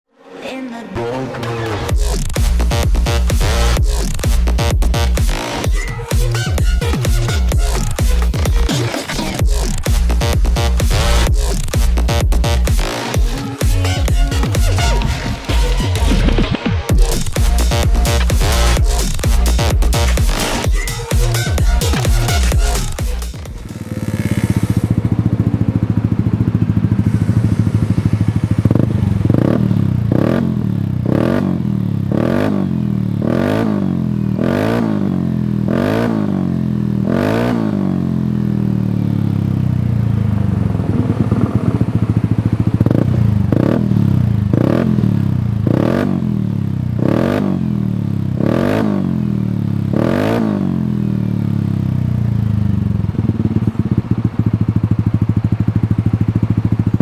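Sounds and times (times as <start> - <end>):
scooter engine revving: 1.0 - 57.0.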